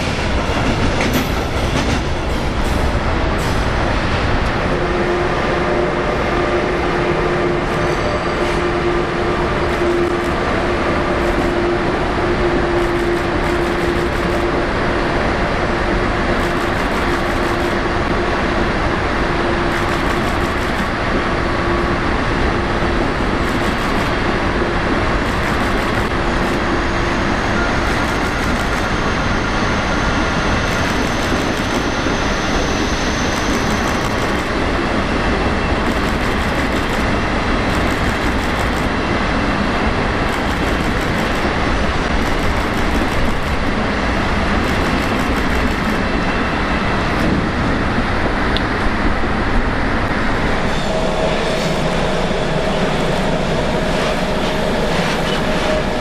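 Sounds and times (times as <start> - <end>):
train rumble and hiss: 0.0 - 56.0.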